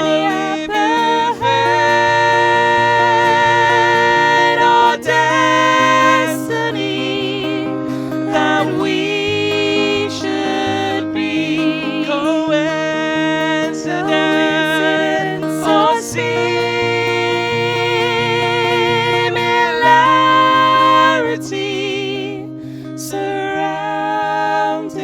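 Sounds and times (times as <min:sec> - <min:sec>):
person singing: 0:00.0 - 0:25.0
plucked guitar: 0:00.0 - 0:25.0.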